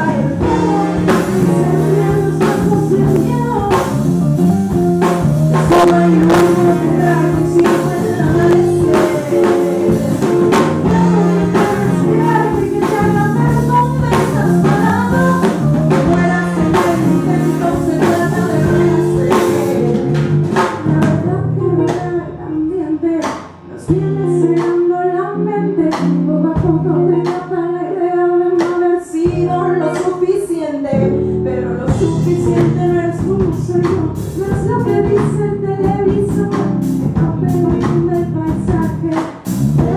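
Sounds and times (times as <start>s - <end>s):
electric bass: 0.0s - 27.6s, 29.2s - 39.9s
drum kit: 0.0s - 27.8s, 28.5s - 31.2s, 31.8s - 39.9s
guitar: 0.0s - 39.9s
woman singing lead: 0.0s - 39.9s.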